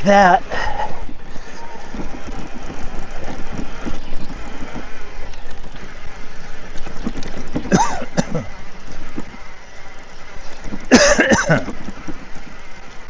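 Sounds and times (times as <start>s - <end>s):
bicycle tyres rolling on gravel: 0.0s - 13.0s.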